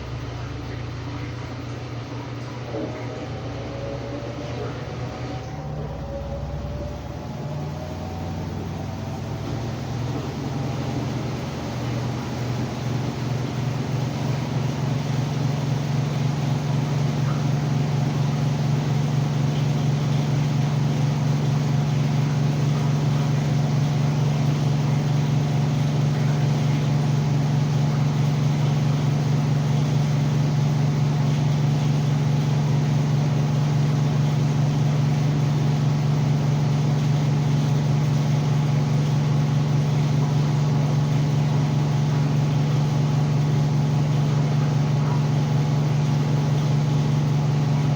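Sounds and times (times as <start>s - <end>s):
washing machine spinning: 0.0s - 47.9s.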